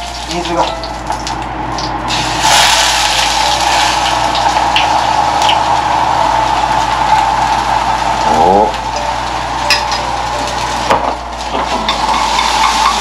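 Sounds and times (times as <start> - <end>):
oil sizzling in frying pans: 0.0 - 13.0
steady mechanical hum: 0.0 - 13.0.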